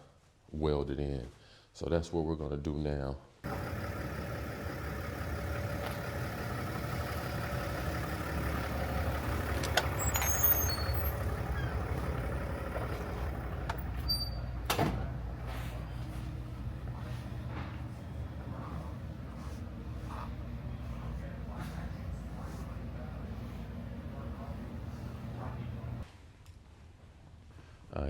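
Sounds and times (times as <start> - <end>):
vehicle engine and road rumble: 3.4 - 26.1.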